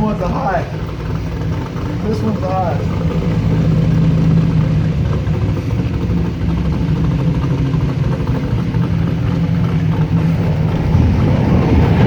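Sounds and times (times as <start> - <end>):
airboat engine and propeller: 0.0 - 12.0.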